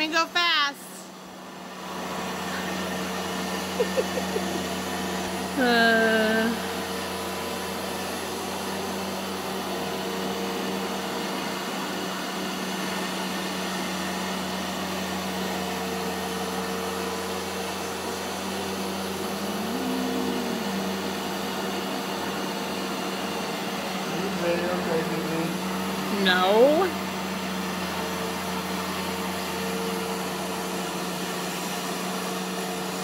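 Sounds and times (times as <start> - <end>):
carpet shampooer motor droning: 0.0 - 33.0.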